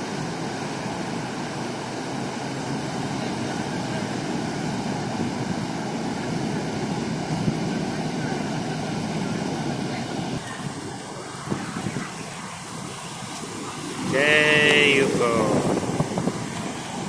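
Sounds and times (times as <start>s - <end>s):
surf rushing: 0.0s - 17.0s
wind: 0.0s - 17.0s.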